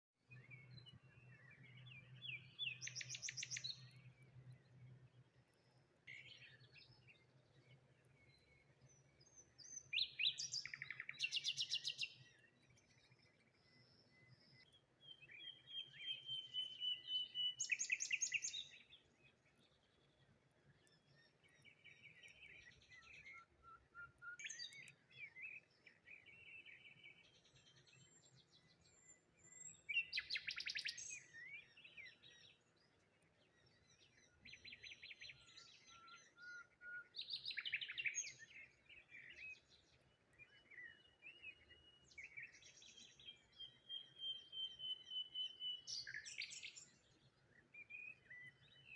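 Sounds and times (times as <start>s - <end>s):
songbirds chirping and singing: 0.3s - 48.9s.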